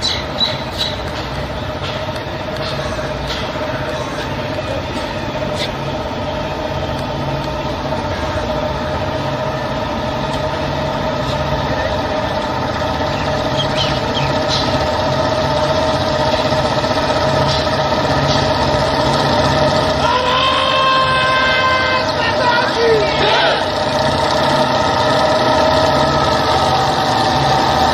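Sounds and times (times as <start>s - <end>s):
motorcycles running slowly: 0.0s - 27.9s.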